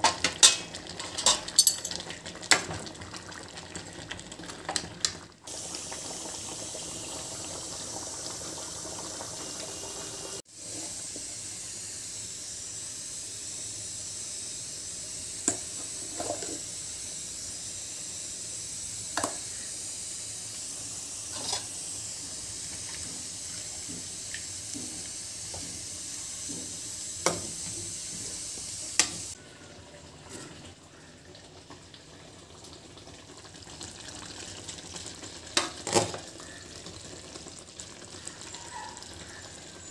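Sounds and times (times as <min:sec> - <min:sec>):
gravy boiling in a pan: 0:00.0 - 0:39.9.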